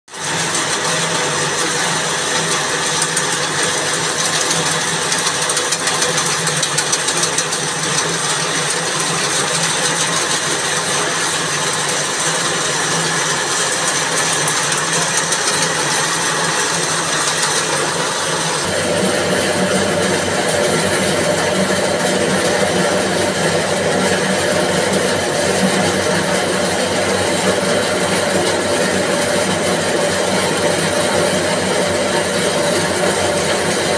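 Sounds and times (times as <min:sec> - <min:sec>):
machine with low hum: 0:00.2 - 0:33.9
spinning machine running: 0:00.2 - 0:33.9.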